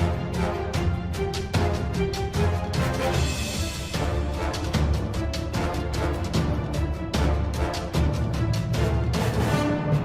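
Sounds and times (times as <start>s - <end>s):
music with percussive beat: 0.0s - 10.0s.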